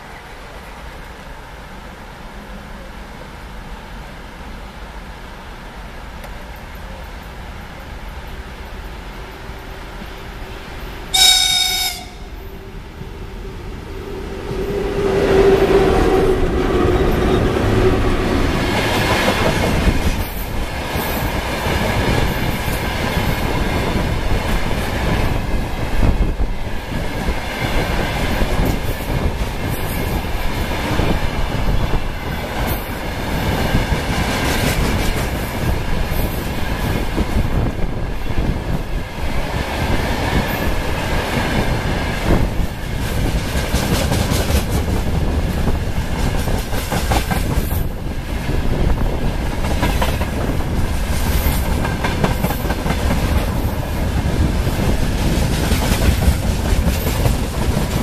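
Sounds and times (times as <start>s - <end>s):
electric locomotive passing: 0.0s - 58.0s.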